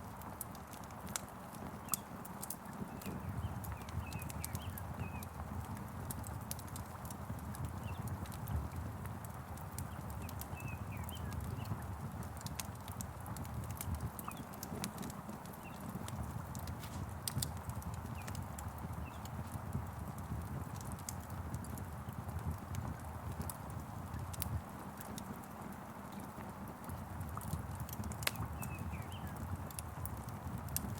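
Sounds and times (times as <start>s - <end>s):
fire crackling and popping: 0.0s - 30.9s
small birds chirping: 0.8s - 24.4s, 27.4s - 30.6s.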